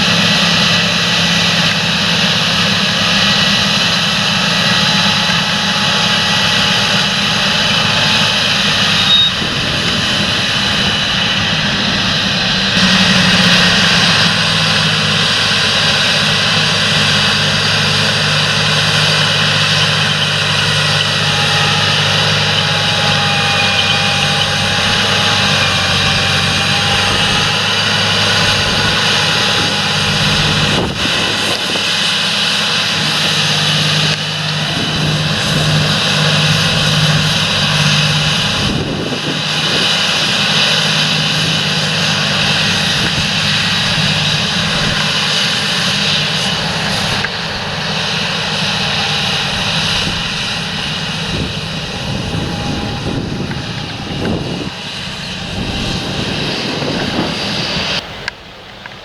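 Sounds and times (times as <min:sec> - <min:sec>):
tractor diesel engine: 0:00.0 - 0:59.0.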